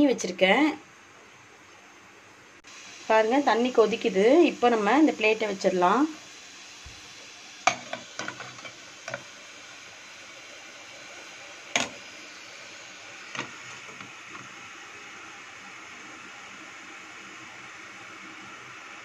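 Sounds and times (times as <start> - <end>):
boiling water hiss: 0.0 - 19.0.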